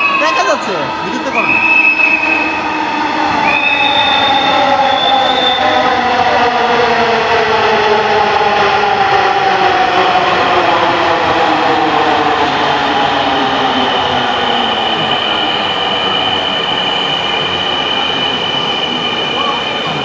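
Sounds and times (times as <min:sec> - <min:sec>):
electric train decelerating whine: 0:00.0 - 0:20.0.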